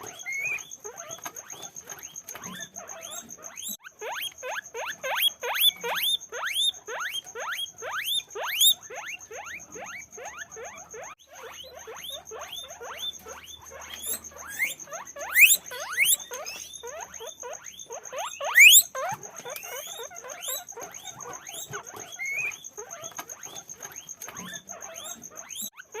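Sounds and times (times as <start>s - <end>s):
guinea pigs squeaking: 0.0s - 26.0s.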